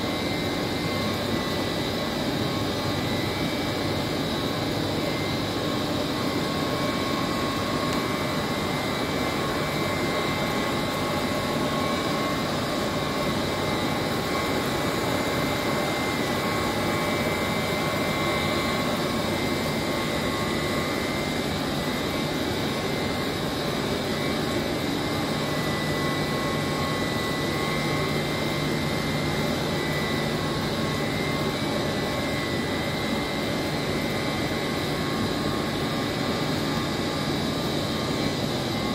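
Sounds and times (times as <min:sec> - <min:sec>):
machinery hum with high whine: 0:00.0 - 0:38.9.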